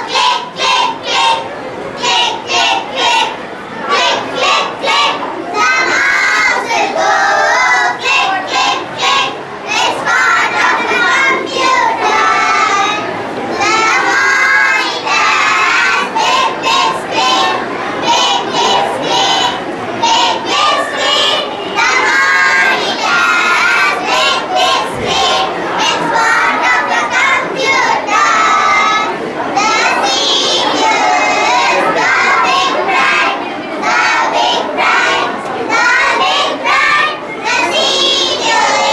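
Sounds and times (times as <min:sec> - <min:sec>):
young children singing: 0:00.0 - 0:38.9.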